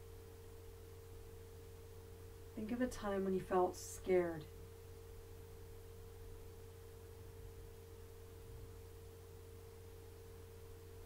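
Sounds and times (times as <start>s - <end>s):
faint steady pure tone: 0.0s - 11.0s
low hum: 0.0s - 11.0s.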